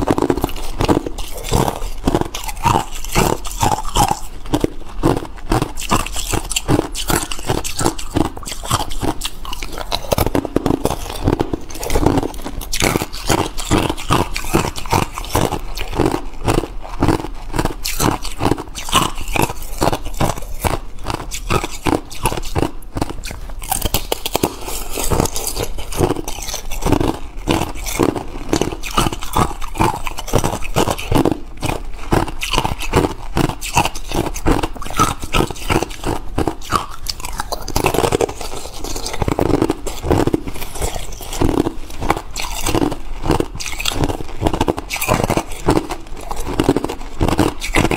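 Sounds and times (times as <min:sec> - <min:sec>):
ice crunching in mouth: 0:00.0 - 0:47.9.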